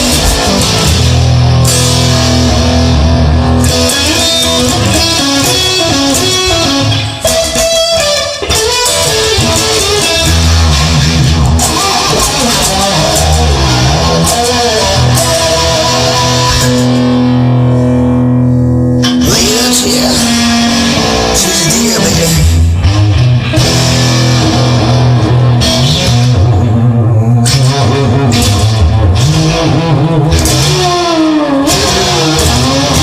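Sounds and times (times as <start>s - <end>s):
rock music on electric guitar: 0.0s - 33.0s.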